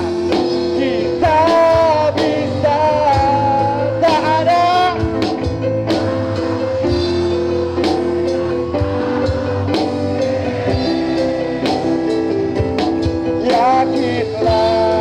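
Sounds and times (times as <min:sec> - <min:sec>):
guitar chords: 0:00.0 - 0:15.0
steady drum beat: 0:00.0 - 0:15.0.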